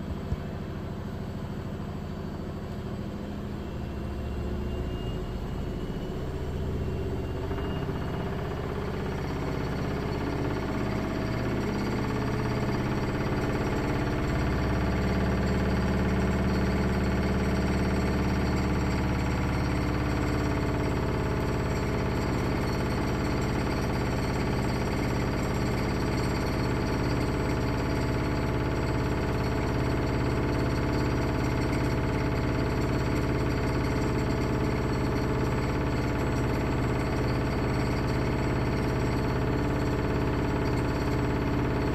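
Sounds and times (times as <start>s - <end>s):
washing machine spin hum: 0.0s - 41.9s.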